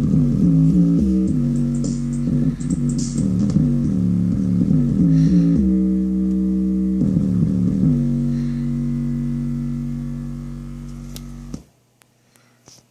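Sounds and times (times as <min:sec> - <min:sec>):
bass-heavy music through subwoofer: 0:00.0 - 0:11.6
faint hum: 0:00.0 - 0:12.9.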